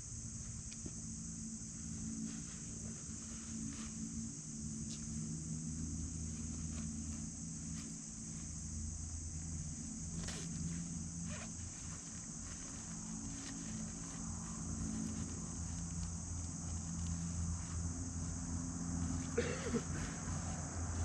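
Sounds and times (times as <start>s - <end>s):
engine humming: 0.0s - 21.0s
insects chorus: 0.0s - 21.0s.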